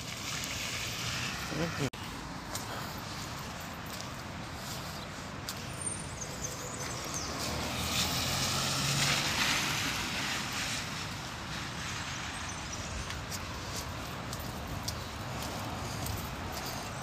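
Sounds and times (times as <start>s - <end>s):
tyre hiss on wet road: 0.0s - 3.6s, 4.3s - 17.0s
outdoor background noise: 0.0s - 17.0s.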